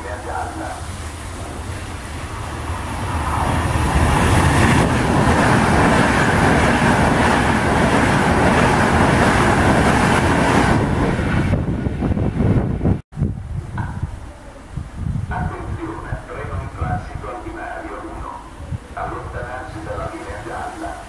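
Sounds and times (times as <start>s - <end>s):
electric train passing: 0.0s - 13.0s, 13.8s - 21.0s.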